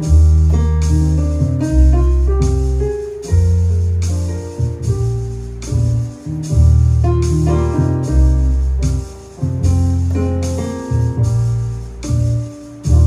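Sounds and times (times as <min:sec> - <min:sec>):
jazz ballad on digital piano: 0:00.0 - 0:13.0.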